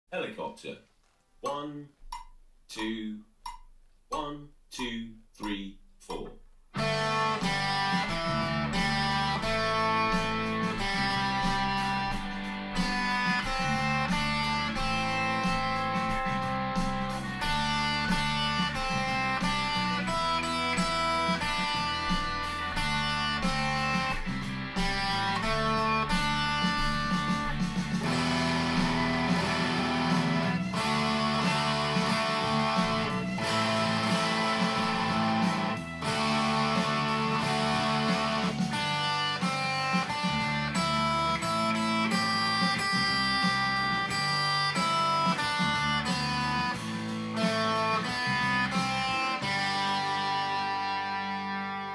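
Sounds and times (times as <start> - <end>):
electric guitar chords: 6.8 - 51.9.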